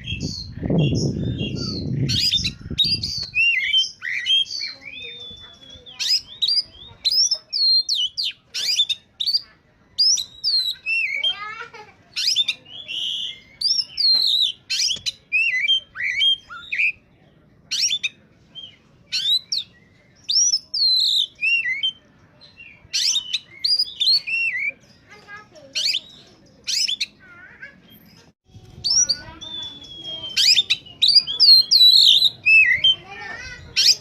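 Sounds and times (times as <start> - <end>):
magpie-robin singing: 0.0 - 34.0.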